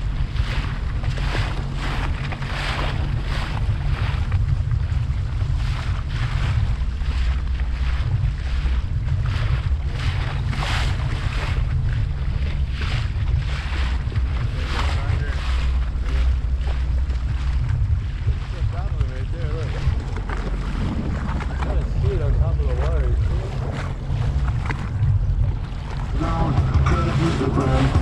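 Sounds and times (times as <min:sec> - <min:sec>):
water splashing against hull: 0:00.0 - 0:28.0
wind buffeting microphone: 0:00.0 - 0:28.0.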